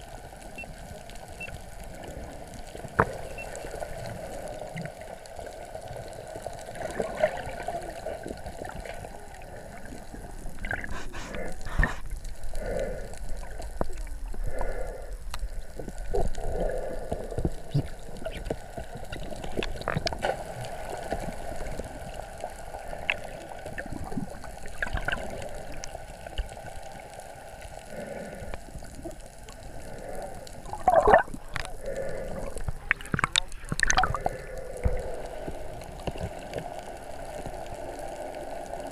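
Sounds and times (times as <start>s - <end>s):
underwater gurgling and sloshing: 0.0s - 38.9s.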